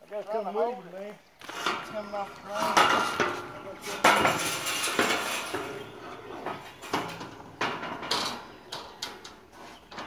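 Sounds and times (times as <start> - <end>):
metal tubing clanking: 1.4 - 10.0.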